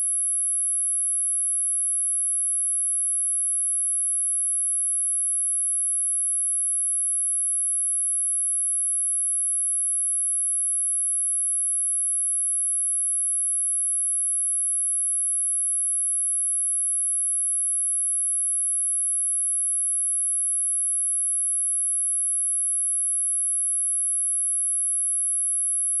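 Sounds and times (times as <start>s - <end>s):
high-pitched sine-wave test tone: 0.0s - 26.0s.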